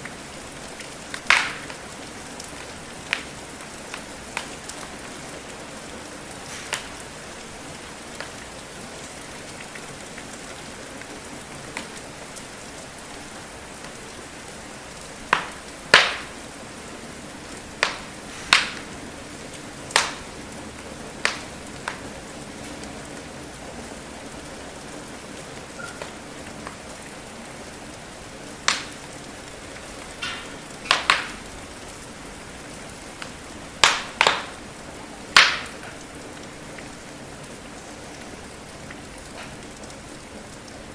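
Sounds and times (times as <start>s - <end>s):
wood fire crackling and popping: 0.0s - 23.1s, 25.0s - 27.2s, 27.8s - 32.2s, 33.1s - 37.1s, 37.7s - 40.9s
steady rain hiss: 0.0s - 40.9s.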